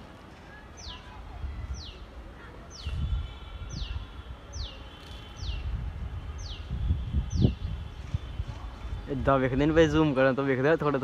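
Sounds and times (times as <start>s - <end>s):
wind rumble on microphone: 1.0s - 10.2s.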